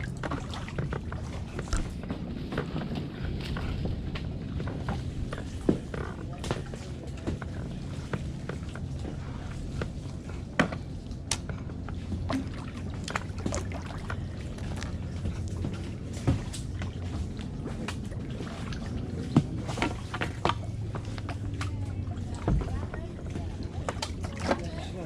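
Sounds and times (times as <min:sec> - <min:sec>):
paddle splashing water: 0:00.0 - 0:25.0
steady low rumble: 0:00.0 - 0:25.0.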